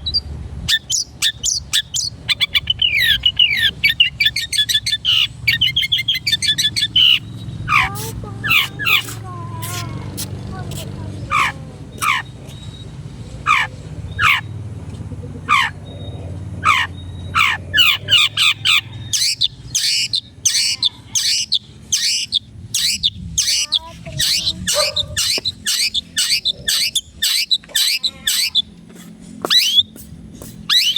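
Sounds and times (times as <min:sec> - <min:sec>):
shrike calling: 0:00.0 - 0:30.9.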